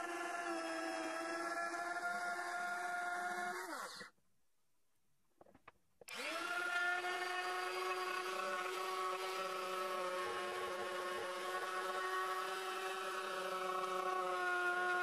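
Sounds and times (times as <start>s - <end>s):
rotary sanding tool whining: 0.0s - 4.0s, 6.1s - 15.0s.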